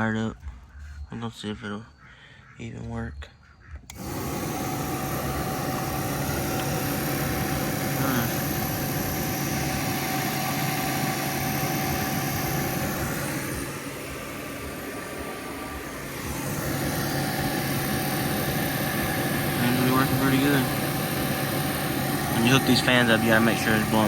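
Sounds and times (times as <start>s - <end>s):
electric cooling fan whirring: 3.6s - 24.0s.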